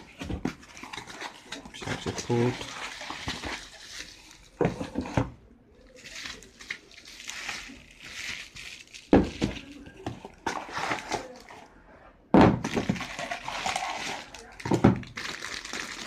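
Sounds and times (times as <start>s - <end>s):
plastic wrap rustling: 0.0s - 11.7s, 12.6s - 16.0s.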